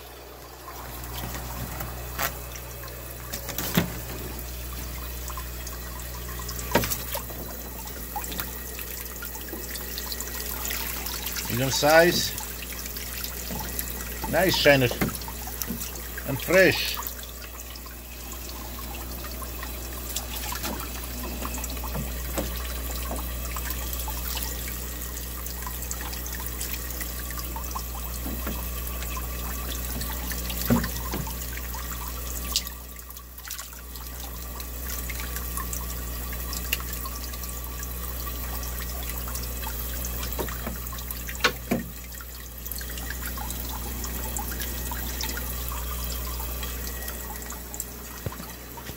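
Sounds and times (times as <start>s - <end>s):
low steady hum: 0.0s - 48.9s
water splashing and bubbling: 0.0s - 48.9s.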